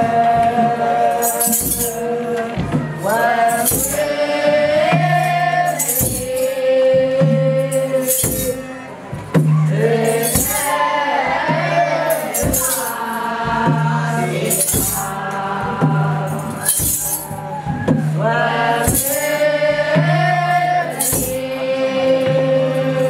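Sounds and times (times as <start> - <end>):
jingling shaken percussion: 0.0 - 23.0
voices singing a hymn: 0.0 - 23.0.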